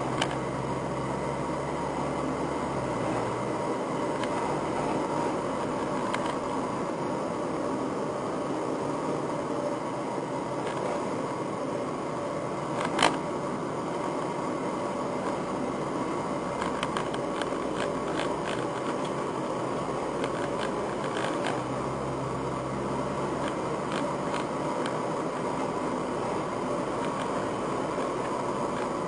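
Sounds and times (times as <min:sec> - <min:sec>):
car interior mechanical hum and hiss: 0:00.0 - 0:29.0.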